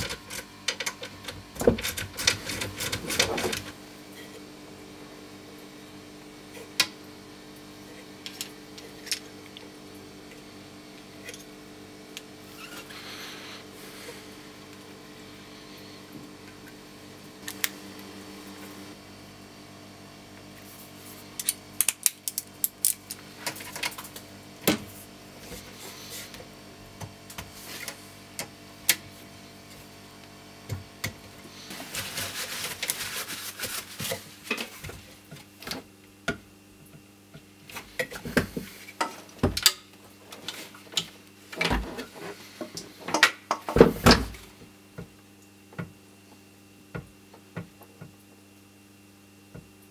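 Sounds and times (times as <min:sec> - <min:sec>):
steady low hum: 0:00.0 - 0:49.8.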